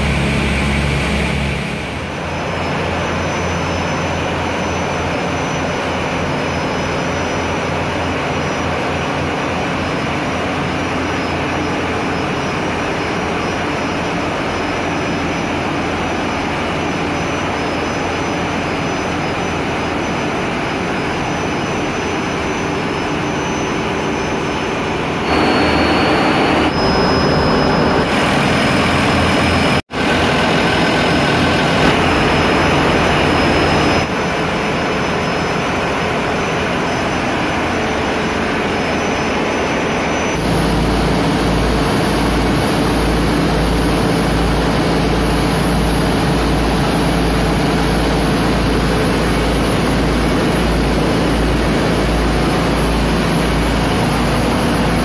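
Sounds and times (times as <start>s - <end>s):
marine diesel engines running: 0.0s - 55.0s.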